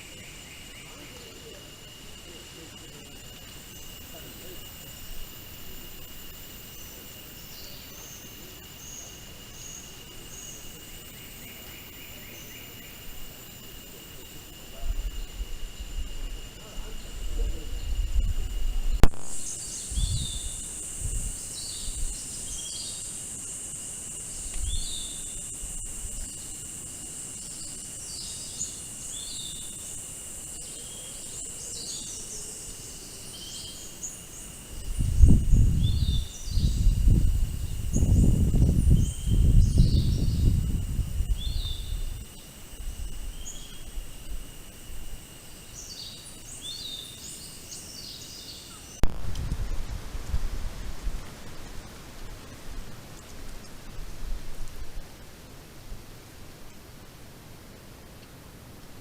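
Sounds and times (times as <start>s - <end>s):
insects droning: 0.0s - 59.0s
outdoor ambience hiss: 0.0s - 59.0s.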